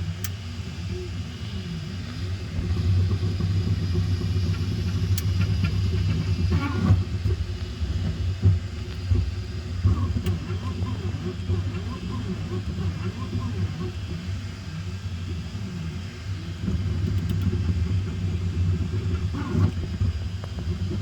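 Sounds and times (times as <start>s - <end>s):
printer motors humming and whining: 0.0s - 21.0s.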